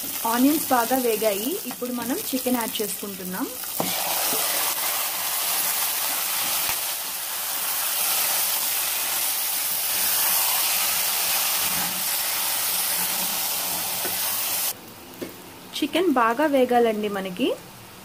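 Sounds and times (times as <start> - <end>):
meat sizzling in hot oil: 0.0 - 14.8.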